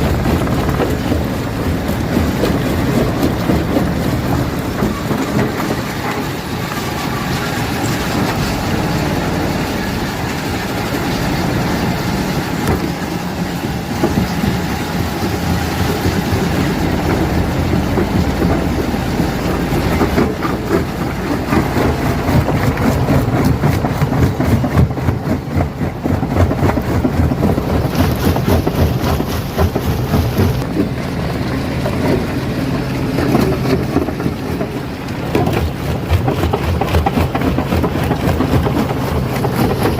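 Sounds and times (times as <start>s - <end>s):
stone crusher drone: 0.0s - 39.9s.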